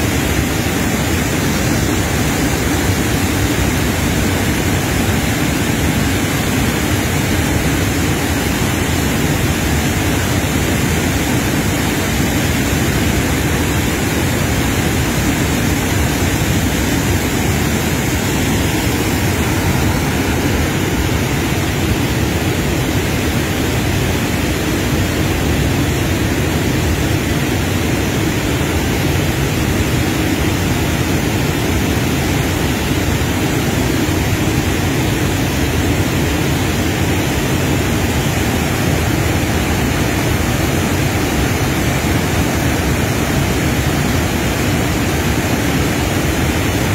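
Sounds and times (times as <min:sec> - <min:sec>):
waterfall and rapids rushing: 0:00.0 - 0:46.9.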